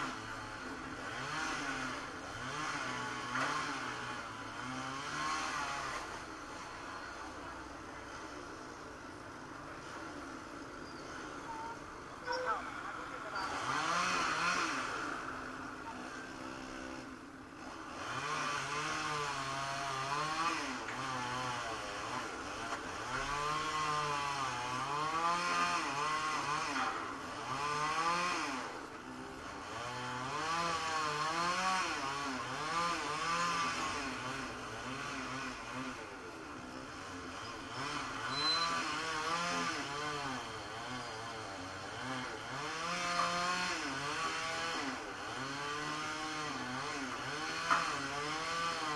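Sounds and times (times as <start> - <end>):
chainsaw cutting wood: 0.0 - 8.4, 12.3 - 48.9.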